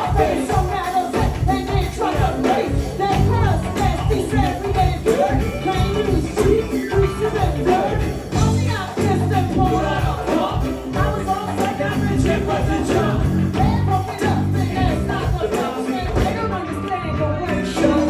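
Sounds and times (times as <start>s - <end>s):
drums and hand percussion: 0.0s - 16.5s
bass line: 0.0s - 18.0s.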